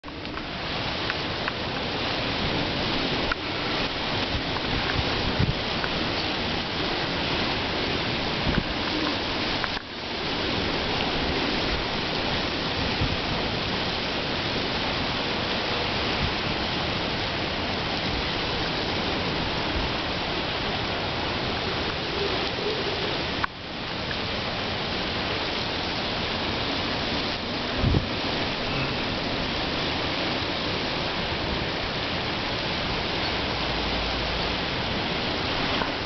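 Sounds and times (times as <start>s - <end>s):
storm surf crashing: 0.0s - 36.0s
strong wind: 0.0s - 36.0s.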